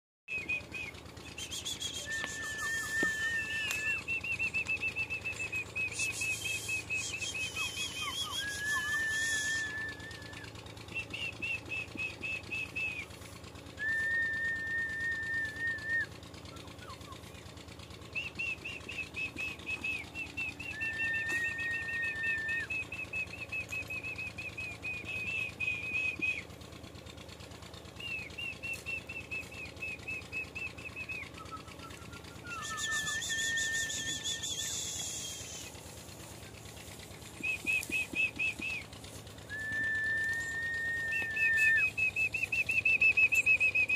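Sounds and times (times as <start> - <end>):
high-pitched whistling: 0.3 - 13.1, 13.8 - 16.1, 18.2 - 26.4, 28.0 - 35.8, 39.5 - 43.9.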